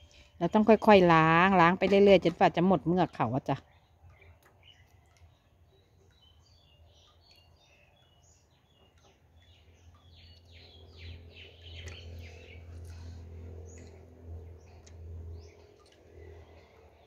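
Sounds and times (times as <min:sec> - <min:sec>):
low steady hum: 0:00.0 - 0:17.0
small birds chirping: 0:00.0 - 0:17.0.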